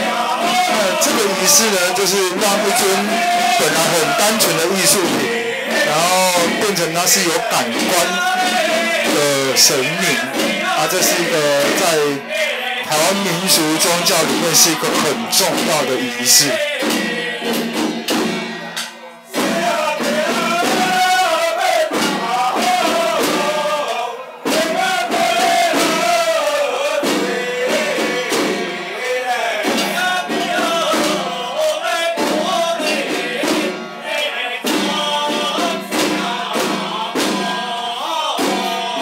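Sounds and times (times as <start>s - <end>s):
men chanting in unison: 0.0s - 18.3s, 19.3s - 39.0s.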